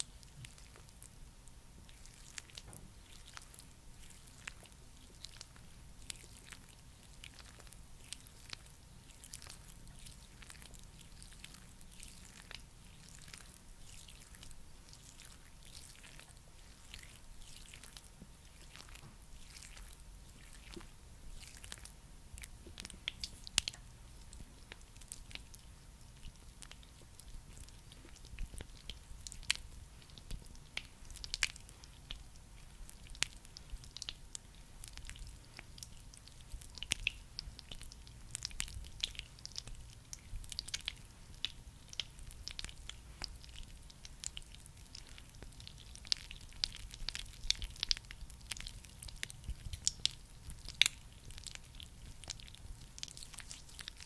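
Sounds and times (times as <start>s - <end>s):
sticky product squished by fingers: 1.9s - 54.0s.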